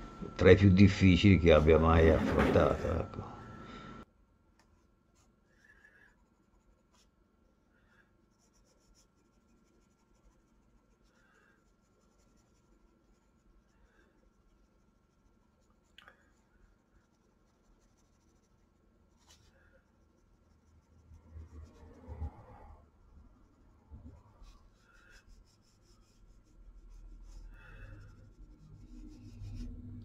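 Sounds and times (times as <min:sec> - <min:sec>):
coloured pencil scratching paper: 0:04.8 - 0:07.2, 0:08.3 - 0:30.0.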